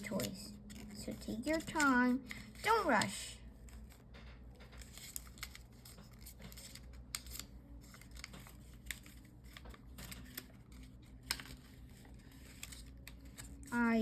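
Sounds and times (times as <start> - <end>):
paper creases clicking: 0.0 - 14.0
paper rustling and crinkling: 0.0 - 14.0.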